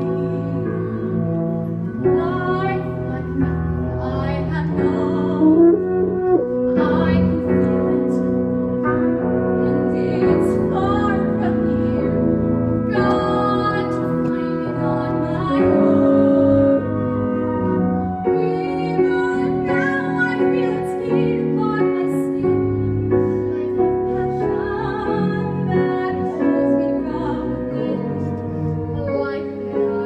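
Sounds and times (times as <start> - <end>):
keyboard chords: 0.0 - 30.0.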